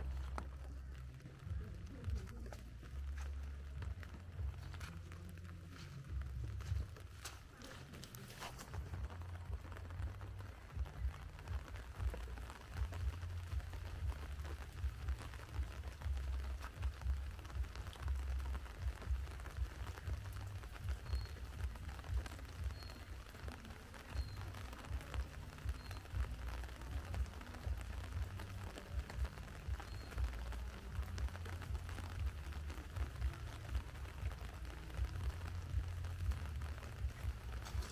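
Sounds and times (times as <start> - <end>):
light crackles and rustling: 0.0 - 37.9.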